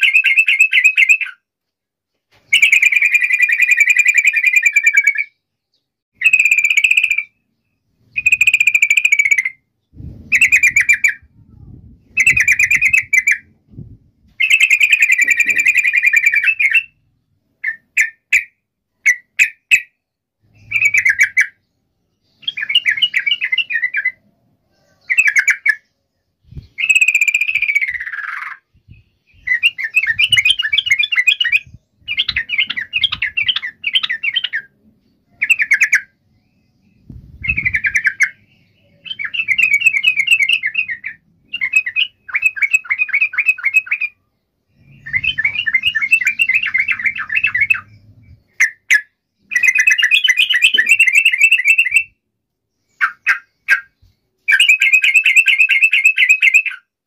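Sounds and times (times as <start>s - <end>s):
bird chattering song: 0.0s - 1.4s, 2.4s - 57.0s.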